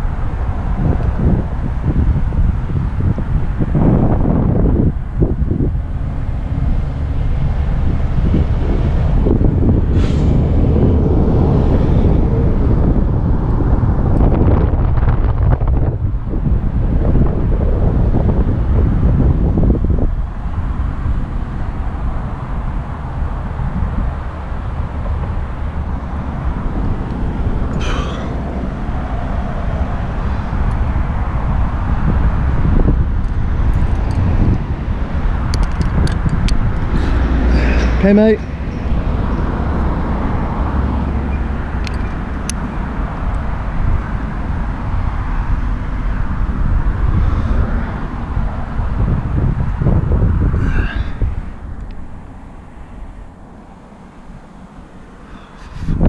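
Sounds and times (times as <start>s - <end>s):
road traffic rumble: 0.0s - 56.0s
wind on microphone: 0.0s - 56.0s.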